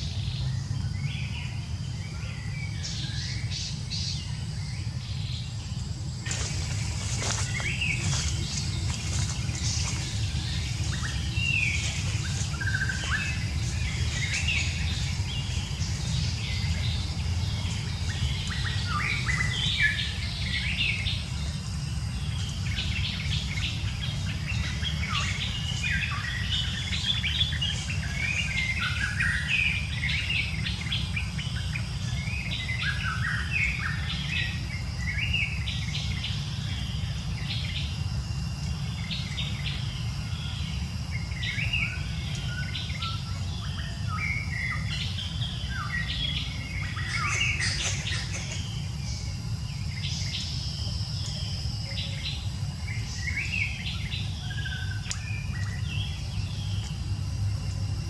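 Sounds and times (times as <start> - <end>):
birds chirping and calling: 0.0 - 38.1, 38.8 - 57.0
steady low rumble: 0.0 - 58.0.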